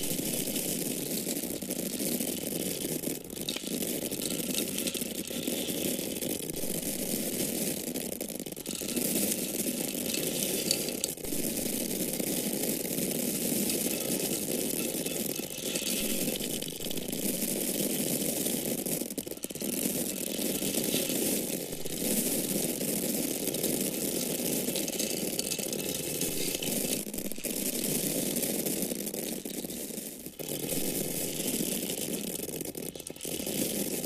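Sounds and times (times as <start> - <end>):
grain kernels pouring: 0.0 - 34.0.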